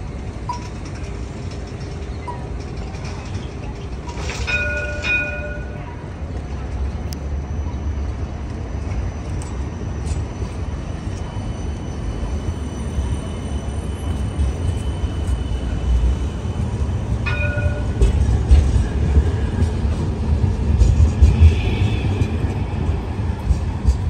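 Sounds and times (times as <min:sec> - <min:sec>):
tram rolling past rumbling: 0:00.0 - 0:24.0.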